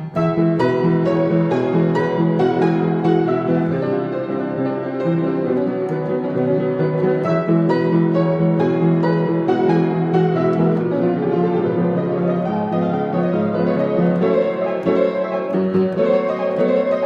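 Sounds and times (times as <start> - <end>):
classical piano music: 0.0 - 17.0.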